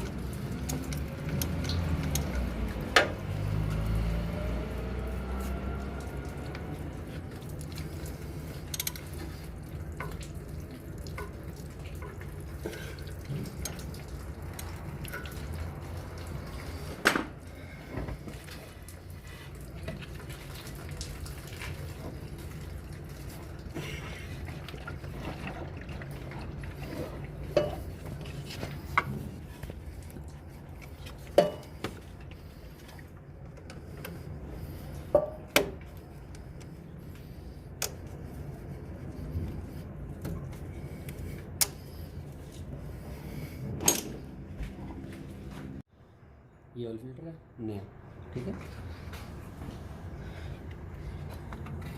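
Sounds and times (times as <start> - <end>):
liquid dripping and splashing: 0.0 - 43.6.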